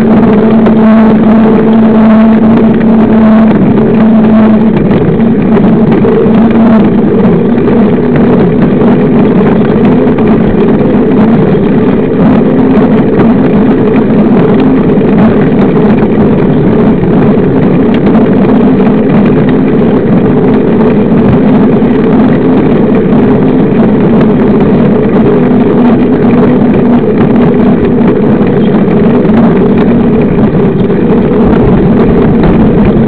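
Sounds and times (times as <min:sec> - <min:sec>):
bike tyre droning on asphalt: 0:00.0 - 0:33.0
wind on microphone: 0:00.0 - 0:33.0.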